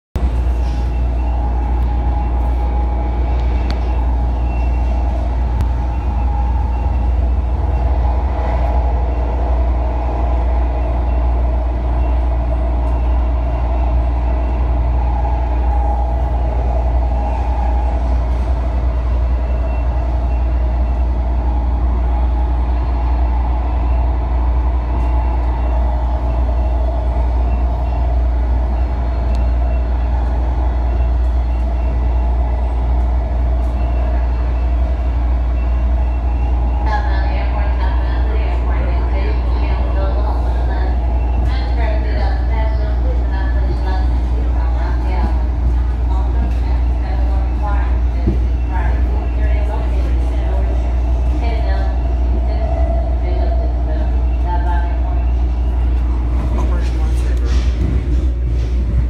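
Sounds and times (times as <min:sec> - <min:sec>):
wavering high whine: 0:00.2 - 0:58.2
train wheels rumbling on track: 0:00.2 - 0:59.0.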